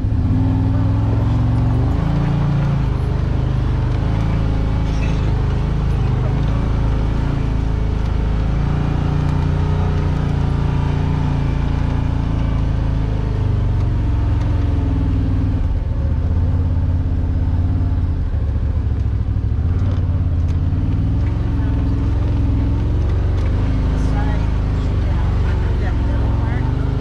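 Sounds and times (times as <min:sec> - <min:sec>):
off-road vehicle engine: 0:00.0 - 0:27.0.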